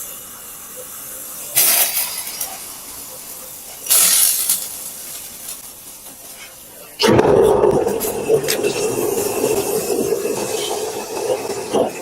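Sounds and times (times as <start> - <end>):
hot metal sizzling in liquid: 0.0 - 6.4, 7.0 - 12.0.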